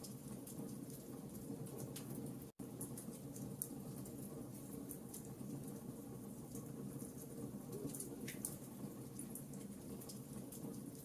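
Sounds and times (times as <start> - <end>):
burning wood crackling and popping: 0.0 - 11.0.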